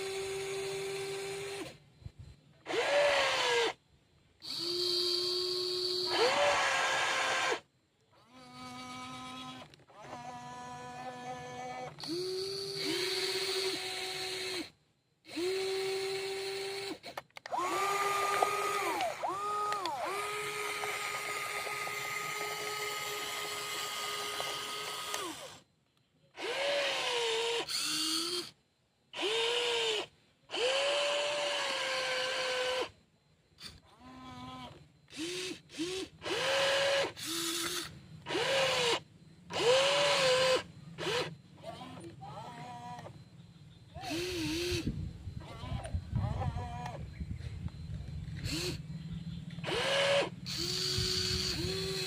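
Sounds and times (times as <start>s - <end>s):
electric motors whining: 0.0s - 3.8s, 4.4s - 25.7s, 26.3s - 52.0s.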